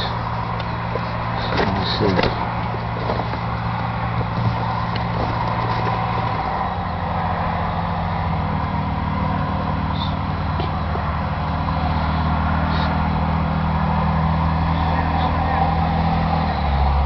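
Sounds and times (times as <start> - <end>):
aircraft engine idling: 0.0 - 17.0.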